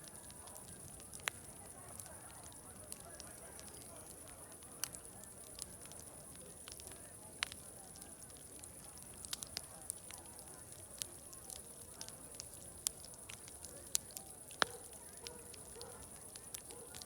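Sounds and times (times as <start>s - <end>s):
distant crowd chatter: 0.0s - 17.0s
wood fire crackling and popping: 0.0s - 17.0s.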